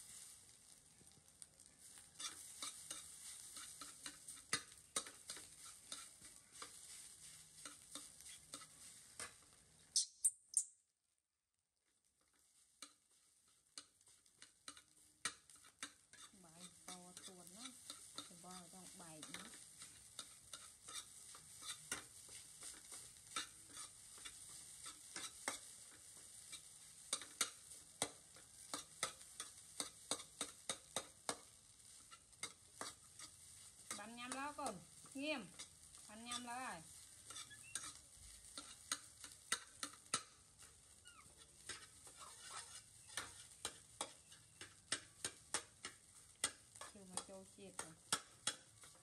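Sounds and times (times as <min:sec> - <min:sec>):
pan sizzling: 0:00.0 - 0:10.3, 0:11.9 - 0:49.0
metal spatula scraping a pan: 0:01.8 - 0:09.6, 0:12.3 - 0:49.0.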